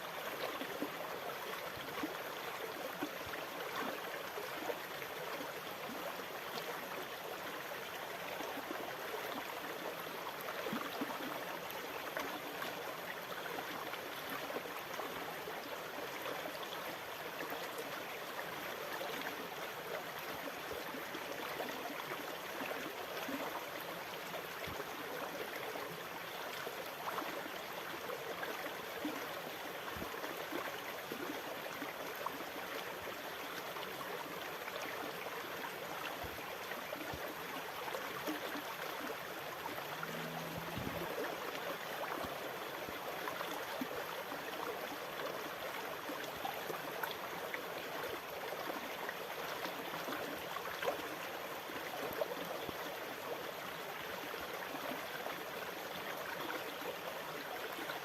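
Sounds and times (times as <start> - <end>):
water trickling and gurgling: 0.1 - 58.0.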